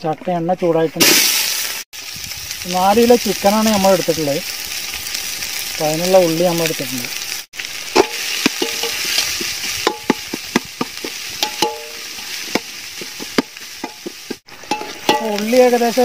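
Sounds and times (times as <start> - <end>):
onions sizzling in oil: 1.0 - 16.0.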